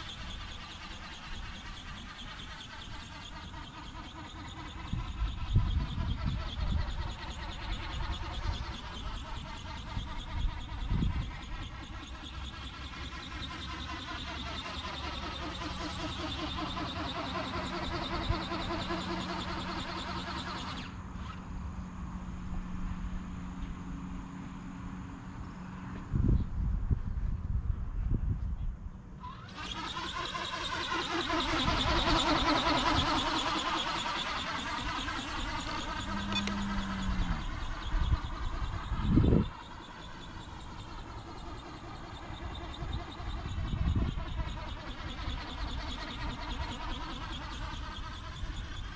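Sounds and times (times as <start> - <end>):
wings flapping: 0.0 - 21.4, 29.2 - 48.9
motor and gear whine: 0.0 - 48.9.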